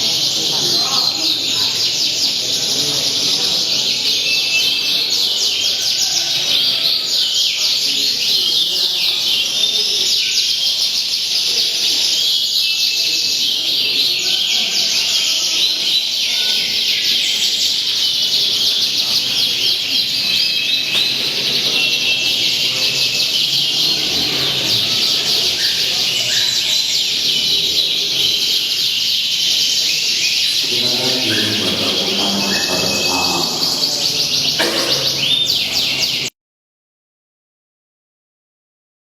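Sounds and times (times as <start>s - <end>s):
murmur of voices: 0.0s - 36.3s
songbirds chirping and trilling: 0.0s - 36.3s.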